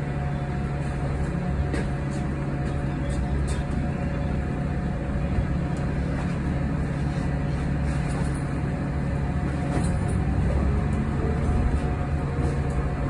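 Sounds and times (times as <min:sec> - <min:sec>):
bus cabin rumble: 0:00.0 - 0:13.0.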